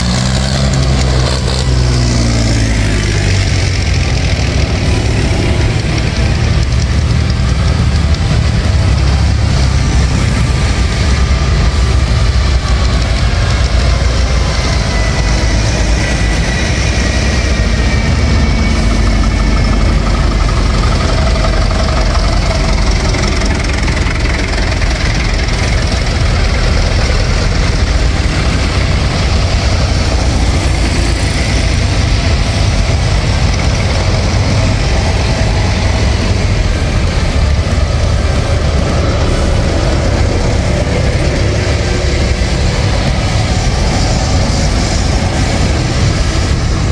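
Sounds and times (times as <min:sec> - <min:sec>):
tractor engines rumbling: 0:00.0 - 0:46.9.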